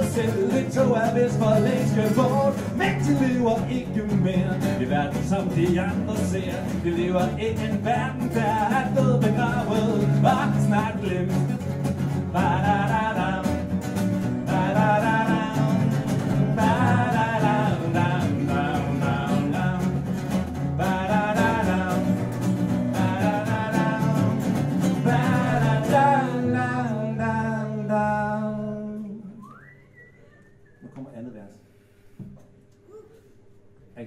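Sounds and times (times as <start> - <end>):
strummed acoustic guitars: 0.0 - 29.2.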